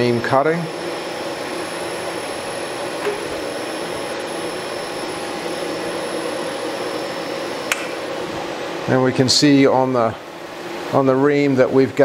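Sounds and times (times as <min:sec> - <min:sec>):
milling machine spindle running: 0:00.0 - 0:11.0.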